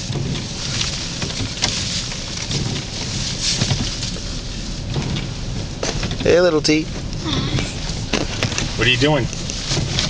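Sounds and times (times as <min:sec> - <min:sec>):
knocks and rattles: 0:00.0 - 0:10.0
road noise: 0:00.0 - 0:10.0
truck engine rumble: 0:00.0 - 0:10.0.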